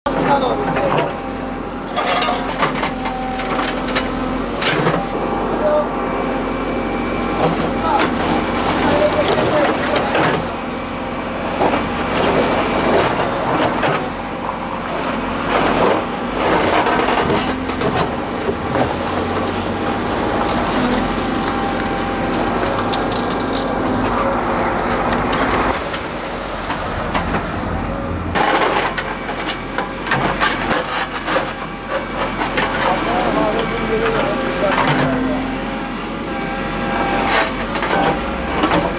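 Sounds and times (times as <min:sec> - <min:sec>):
diesel engine running: 0:00.1 - 0:38.9.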